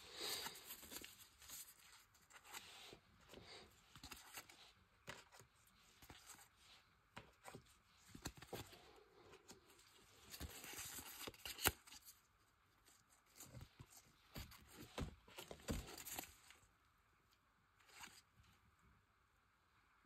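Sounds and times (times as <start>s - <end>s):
cards rustling: 0.1s - 16.6s.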